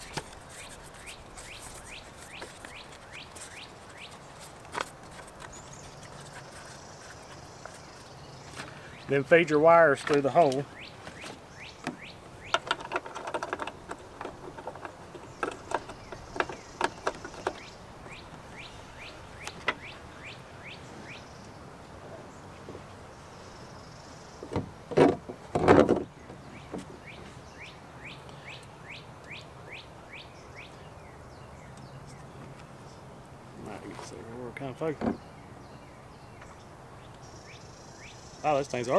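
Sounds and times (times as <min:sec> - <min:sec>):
bird chirping: 0:00.0 - 0:24.8, 0:25.9 - 0:38.9.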